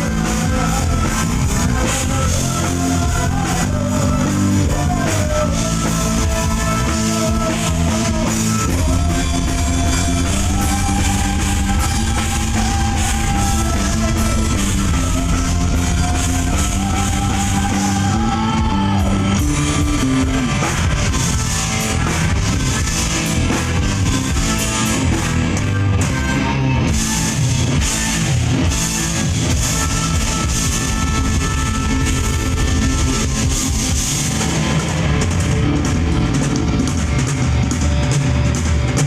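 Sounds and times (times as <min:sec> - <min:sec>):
bass guitar: 0:00.0 - 0:39.0
drum kit: 0:00.0 - 0:39.0
electric guitar: 0:00.0 - 0:39.0.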